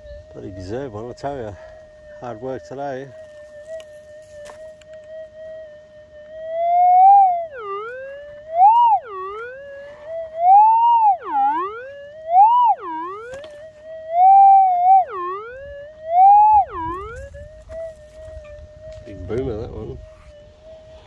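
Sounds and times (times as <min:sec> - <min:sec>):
metal detector tone wavering: 0:00.0 - 0:21.0.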